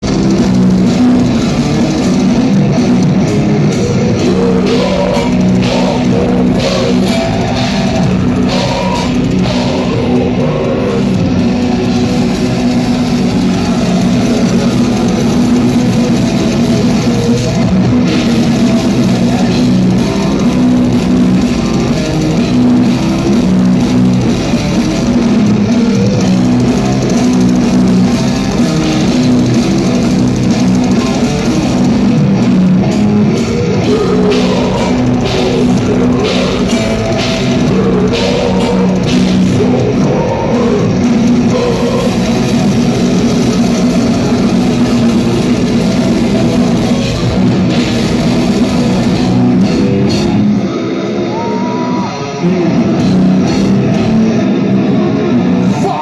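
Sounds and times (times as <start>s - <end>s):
distorted electric guitars: 0.0s - 56.0s
drums: 0.0s - 56.0s.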